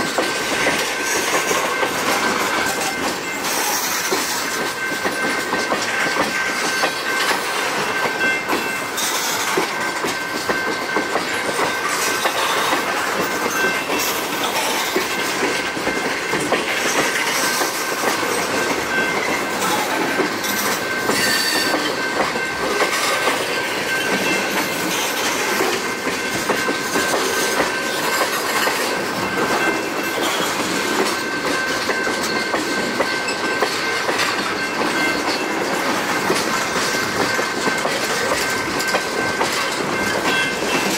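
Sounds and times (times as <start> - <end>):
freight train rumble: 0.0 - 40.9
train wheels clacking over rail joints: 0.0 - 40.9.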